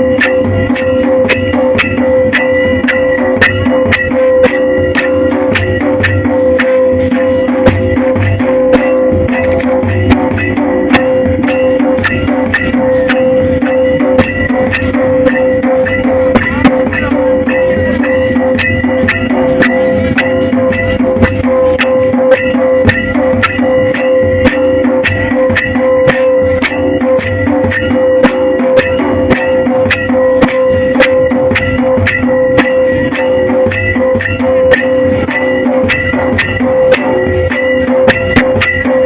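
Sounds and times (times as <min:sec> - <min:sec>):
drum beaten in steady rhythm: 0:00.0 - 0:39.0
held drone tone: 0:00.0 - 0:39.0.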